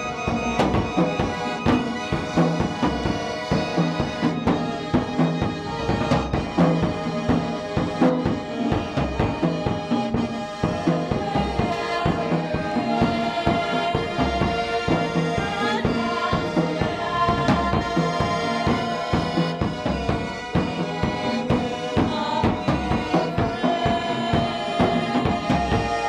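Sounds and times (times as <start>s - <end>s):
accordion: 0.0s - 26.0s
oboe: 0.0s - 26.0s.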